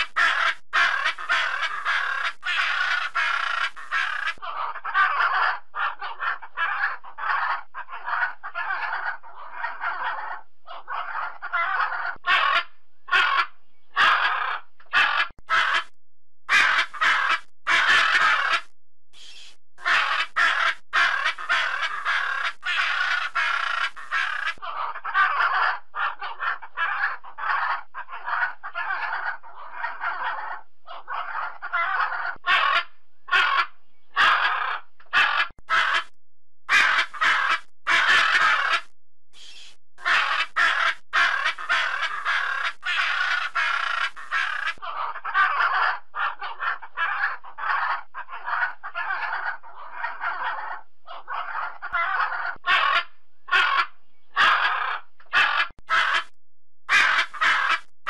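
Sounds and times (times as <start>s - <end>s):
macaw squawking: 0.0s - 15.9s, 16.5s - 36.1s, 36.7s - 56.3s, 56.9s - 57.9s.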